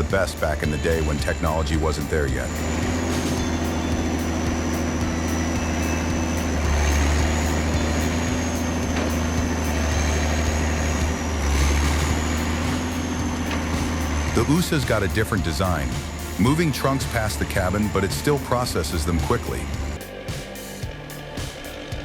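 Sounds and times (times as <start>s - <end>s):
timber processor engine under load: 0.0s - 20.0s
thin high whine: 0.8s - 22.0s.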